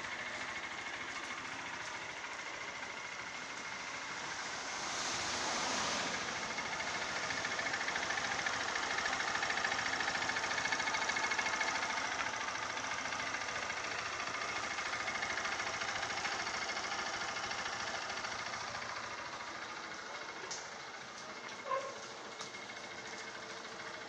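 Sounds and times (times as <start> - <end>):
motorcycle engine idling: 0.0 - 4.9, 6.0 - 24.0.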